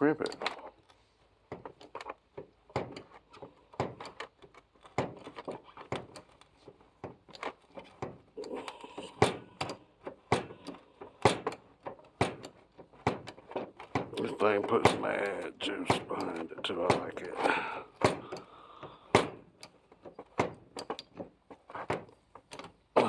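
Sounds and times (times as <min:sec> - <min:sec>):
hydraulic crimper clicking: 0:01.5 - 0:22.9.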